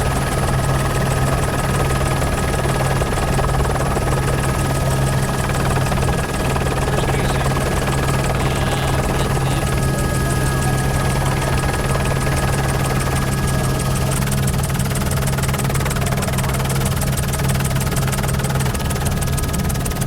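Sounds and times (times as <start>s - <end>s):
thin steady whining tones: 0.0s - 19.6s
helicopter rotor and engine drone: 0.0s - 20.0s.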